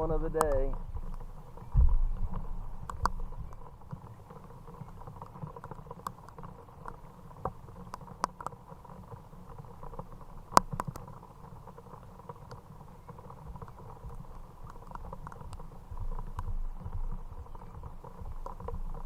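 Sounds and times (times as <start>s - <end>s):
rain patter: 0.0s - 19.0s
sharp taps and knocks: 0.0s - 19.0s.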